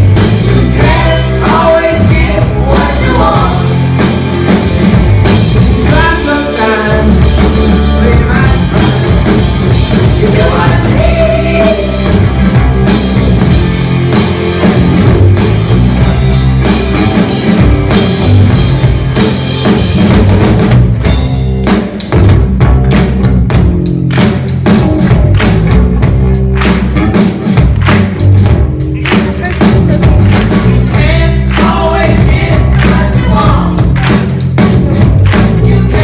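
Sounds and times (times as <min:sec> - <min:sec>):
drum kit beat: 0:00.0 - 0:36.0
live rock band playing: 0:00.0 - 0:36.0.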